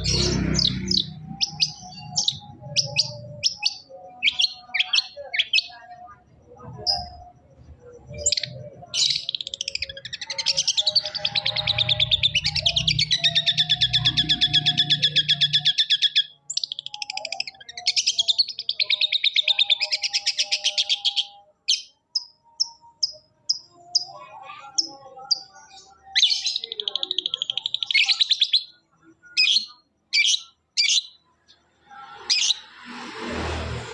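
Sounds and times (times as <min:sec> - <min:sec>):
shrike chattering trills: 0:00.0 - 0:31.2.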